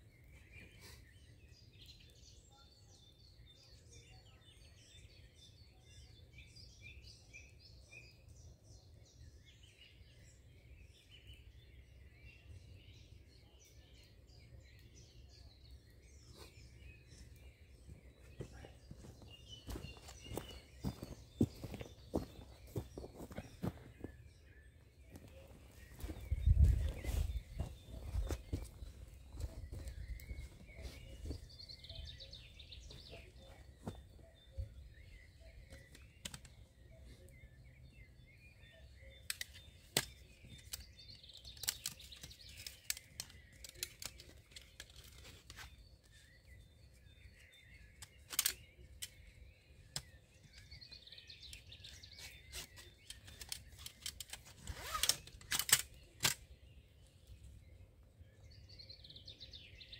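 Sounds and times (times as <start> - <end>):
birds singing: 0.0 - 59.9.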